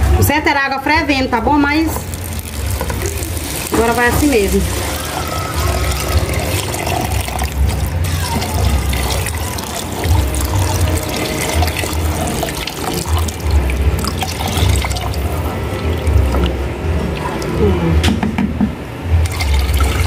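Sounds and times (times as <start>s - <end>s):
low bass music beat: 1.4s - 18.2s
water pouring into a pot: 1.8s - 17.5s, 19.2s - 20.0s.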